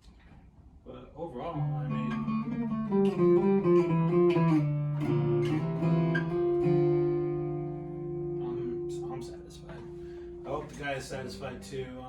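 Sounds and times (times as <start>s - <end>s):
acoustic guitar playing: 1.6s - 12.0s.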